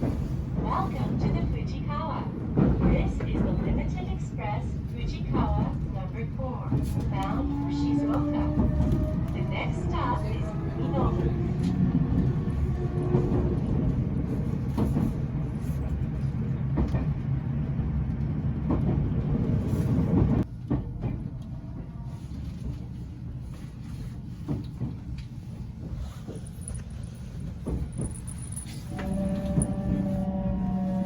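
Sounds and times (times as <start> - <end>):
train rumble inside carriage: 0.0 - 31.0.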